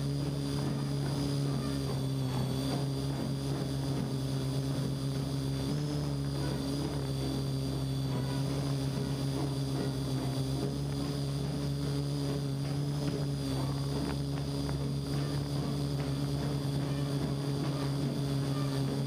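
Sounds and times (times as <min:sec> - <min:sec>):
drone rotors buzzing: 0:00.0 - 0:19.0.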